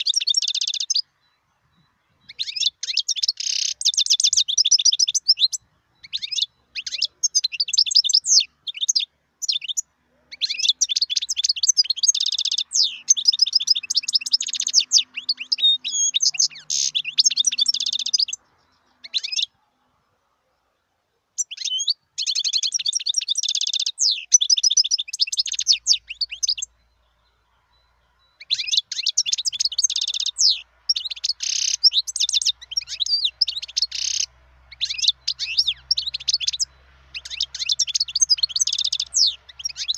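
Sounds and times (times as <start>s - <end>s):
goldfinch twittering and trilling: 0.0s - 19.6s, 21.4s - 39.9s.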